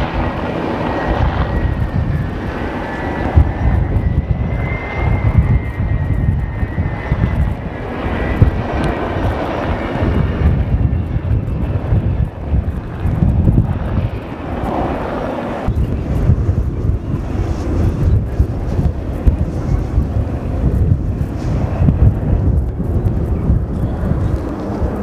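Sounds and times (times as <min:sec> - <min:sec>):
jet bomber rumbling past: 0:00.0 - 0:25.0.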